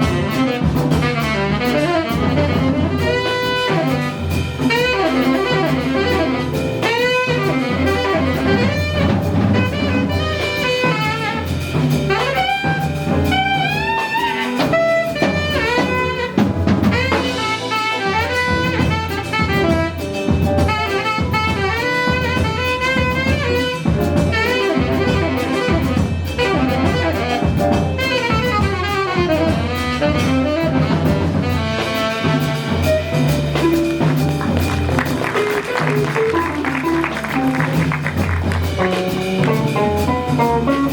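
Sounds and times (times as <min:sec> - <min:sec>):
jazz band playing: 0:00.0 - 0:40.9
saxophone fast melodic runs: 0:00.0 - 0:40.9.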